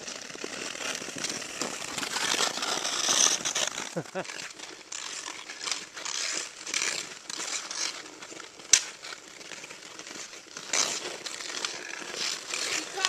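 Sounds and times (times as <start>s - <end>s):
hockey sticks scuffling: 0.0s - 13.0s
skate blades scraping ice: 0.0s - 13.0s
sharp crack: 0.2s - 13.0s.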